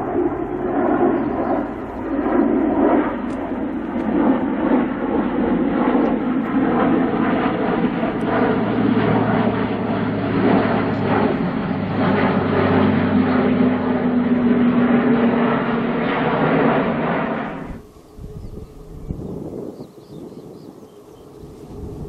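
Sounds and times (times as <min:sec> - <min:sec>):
turboprop aircraft flying past: 0:00.0 - 0:22.0.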